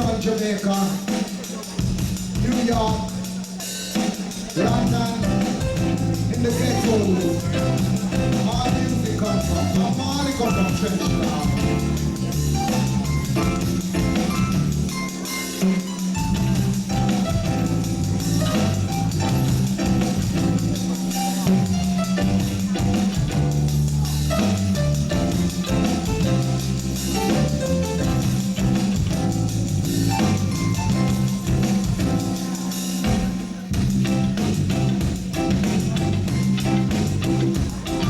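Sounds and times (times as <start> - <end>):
live reggae band playing: 0.0 - 38.0
walking bass line: 4.5 - 38.0.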